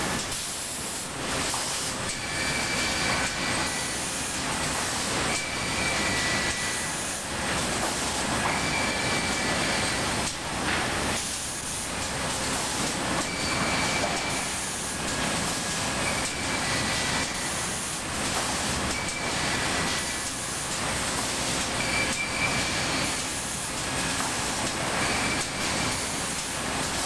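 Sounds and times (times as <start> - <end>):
conveyor mechanical clatter: 0.0 - 27.0.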